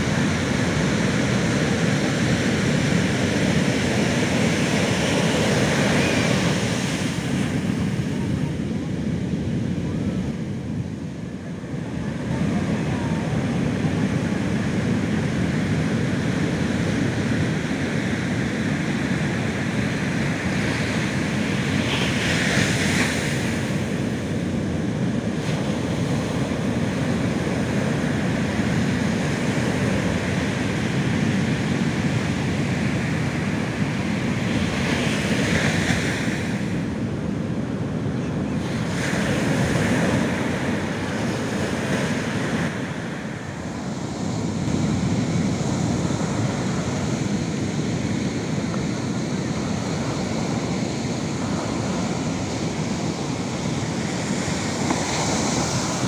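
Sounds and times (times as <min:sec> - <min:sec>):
ocean surf roaring: 0:00.0 - 0:56.0.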